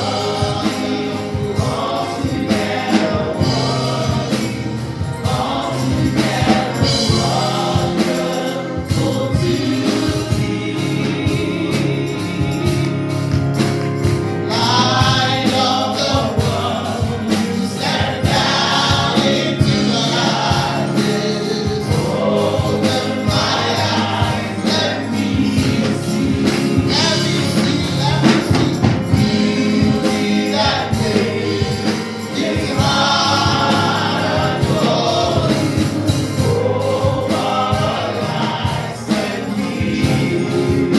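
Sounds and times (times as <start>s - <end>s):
gospel choir singing: 0.0s - 40.9s
instrumental backing with beat: 0.0s - 40.9s.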